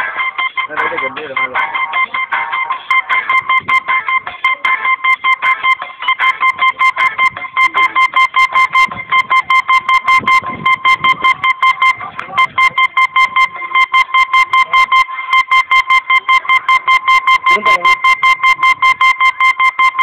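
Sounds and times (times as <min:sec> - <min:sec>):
faint backing music: 0:00.0 - 0:20.0
fast electronic beeps: 0:00.0 - 0:20.0.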